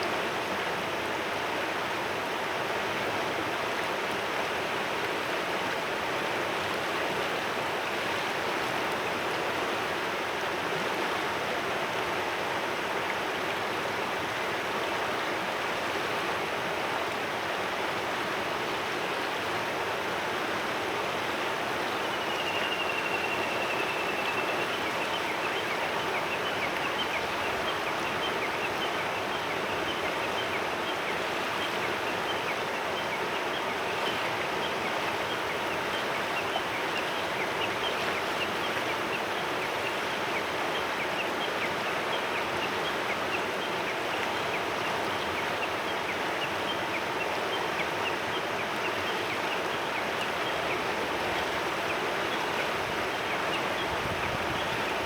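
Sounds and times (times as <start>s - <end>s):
river flowing over stones: 0.0s - 22.7s, 23.3s - 55.0s.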